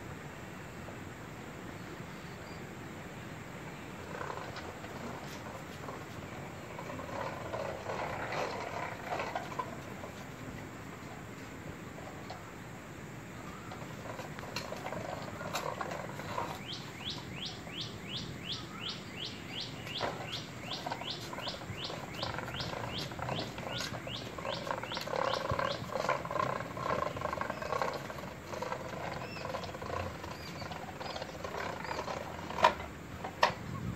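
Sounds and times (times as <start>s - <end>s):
toy tractor on concrete: 3.6s - 33.9s.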